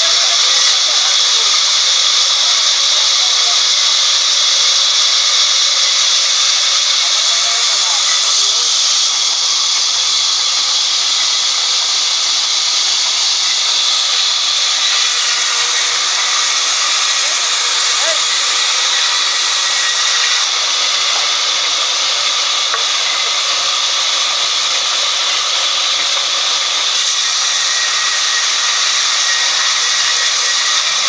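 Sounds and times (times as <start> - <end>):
band saw cutting timber: 0.0 - 31.0.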